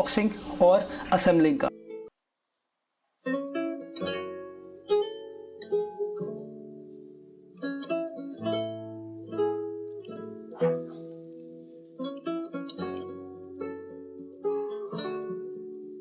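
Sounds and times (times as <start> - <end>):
plucked guitar music: 0.0 - 2.1, 3.2 - 16.0.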